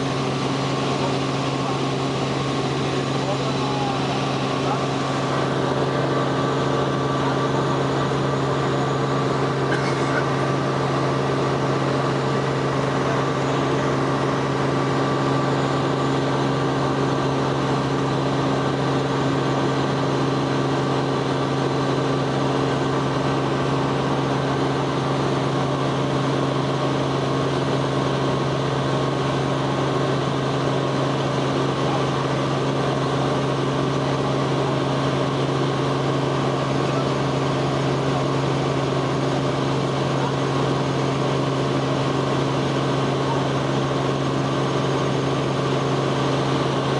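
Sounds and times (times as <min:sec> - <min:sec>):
helicopter engine and rotors droning: 0:00.0 - 0:46.9.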